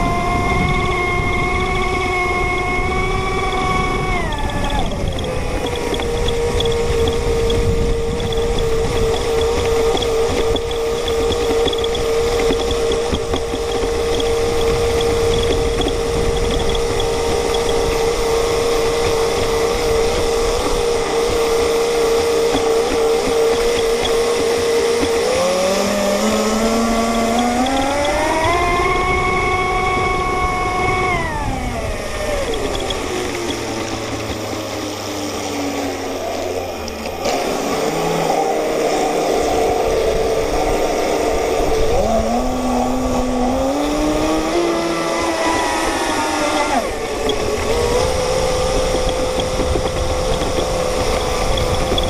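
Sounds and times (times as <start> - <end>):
model boat motor running: 0.0 - 52.0
steady rushing noise: 0.0 - 52.0.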